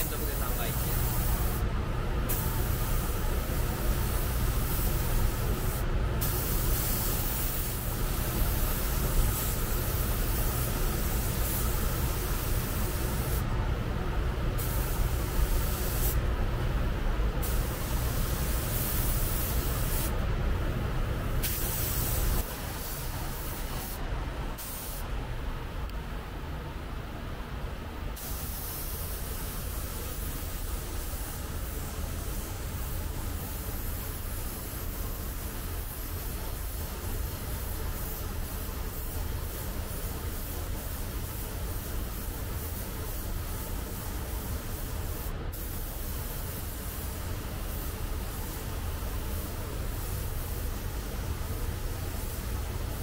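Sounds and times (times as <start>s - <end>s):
compressed air hissing: 0.0s - 1.6s, 2.2s - 13.5s, 14.6s - 16.2s, 17.4s - 20.2s, 21.4s - 24.0s, 24.6s - 25.1s, 28.2s - 53.0s
steady low hum: 0.0s - 53.0s.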